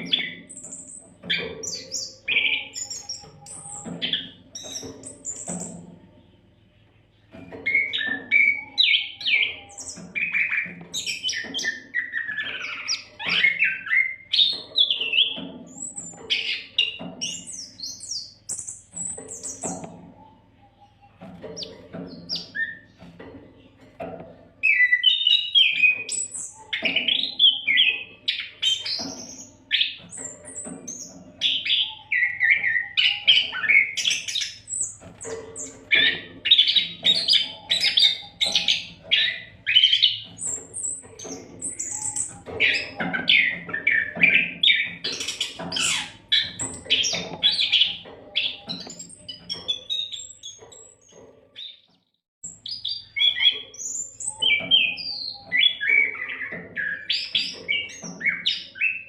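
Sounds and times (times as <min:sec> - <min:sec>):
songbird whistling song: 0:00.0 - 0:05.8, 0:07.6 - 0:23.0, 0:24.6 - 0:59.0.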